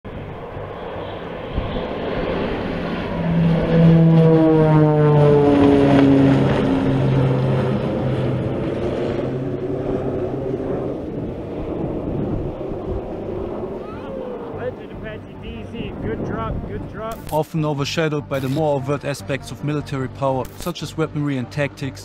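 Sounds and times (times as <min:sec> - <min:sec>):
propeller plane flying overhead: 0:00.1 - 0:22.0.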